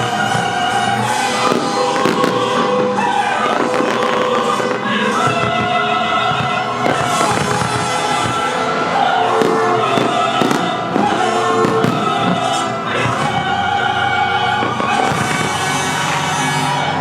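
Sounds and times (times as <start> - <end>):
fireworks bursting with bangs: 0.0 - 17.0
loud music with singing: 0.0 - 17.0.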